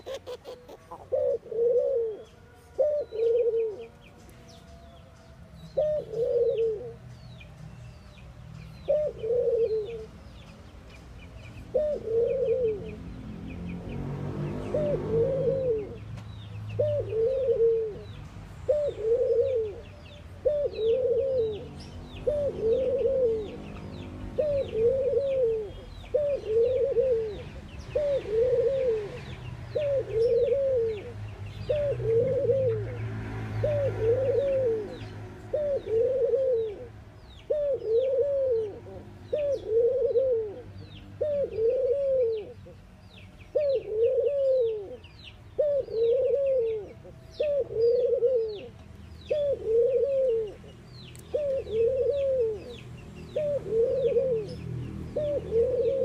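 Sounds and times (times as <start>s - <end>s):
dove cooing: 0.0s - 4.1s, 5.8s - 7.0s, 8.8s - 10.2s, 11.7s - 13.1s, 14.5s - 16.1s, 16.7s - 42.8s, 43.5s - 56.0s
small birds chirping: 0.0s - 56.0s.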